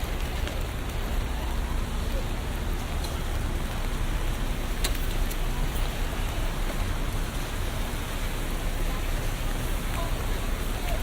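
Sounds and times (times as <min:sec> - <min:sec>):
rain on street: 0:00.0 - 0:11.0.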